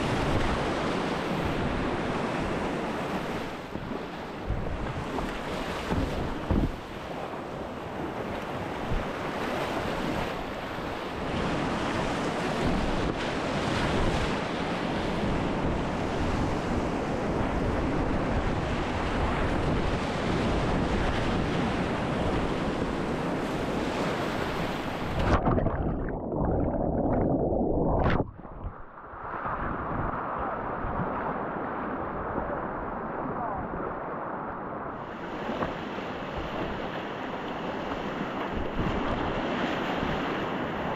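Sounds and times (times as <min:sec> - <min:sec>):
wind buffeting microphone: 0:00.0 - 0:34.1, 0:34.9 - 0:40.9
dull water wash: 0:00.0 - 0:40.9.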